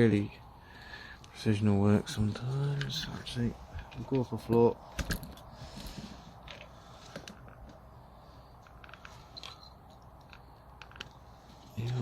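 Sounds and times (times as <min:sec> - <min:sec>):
handling clicks and scrapes: 0:02.4 - 0:12.0.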